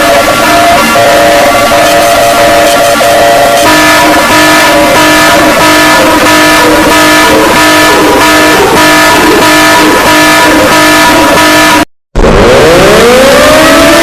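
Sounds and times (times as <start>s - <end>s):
harsh emergency alarm tones: 0.0s - 14.0s.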